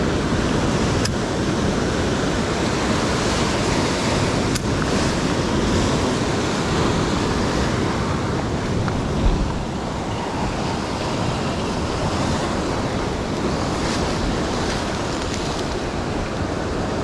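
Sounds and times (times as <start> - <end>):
surf washing over rocks: 0.0 - 17.0
wind buffeting microphone: 0.0 - 17.0.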